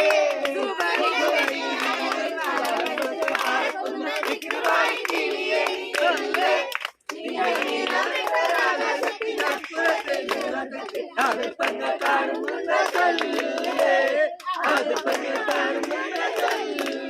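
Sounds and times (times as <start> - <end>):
group singing unaccompanied: 0.0 - 17.0
hands clapping: 0.0 - 17.0.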